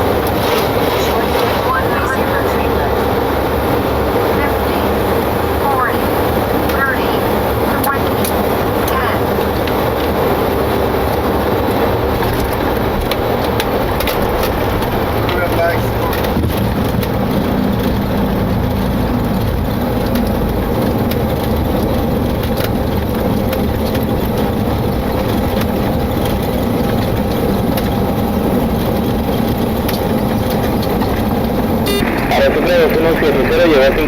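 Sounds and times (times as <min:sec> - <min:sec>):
jet engines: 0:00.0 - 0:34.0
rush of aircraft rolling: 0:00.0 - 0:34.0.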